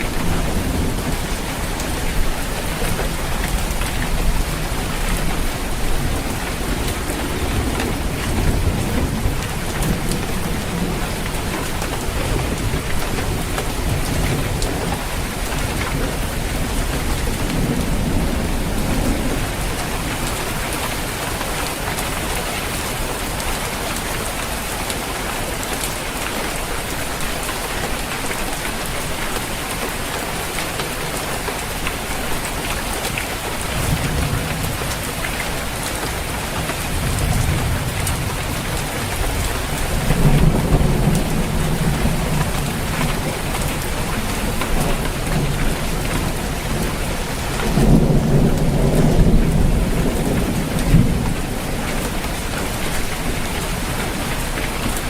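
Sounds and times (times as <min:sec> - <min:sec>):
thunder rumbles: 0:00.0 - 0:22.4, 0:32.8 - 0:55.0
rain pattering on a roof: 0:00.0 - 0:55.0.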